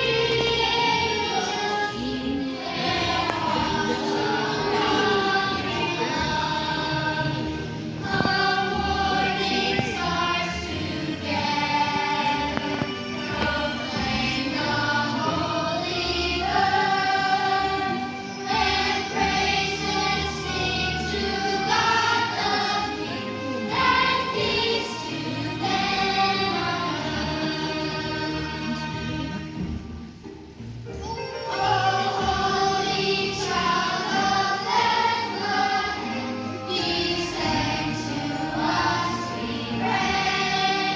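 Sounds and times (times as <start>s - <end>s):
choir singing: 0.0s - 29.9s, 31.4s - 40.9s
musical accompaniment: 0.0s - 40.9s.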